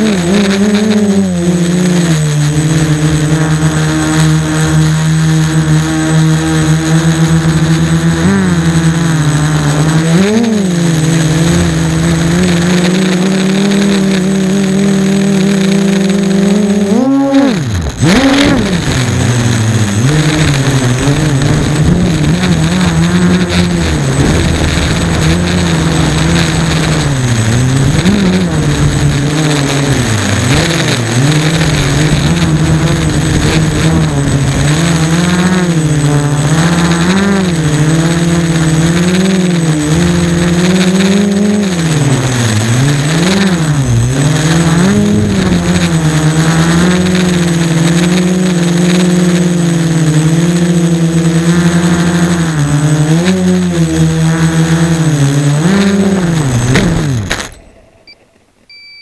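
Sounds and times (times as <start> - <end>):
drone motors and propellers whining: 0.0 - 58.6.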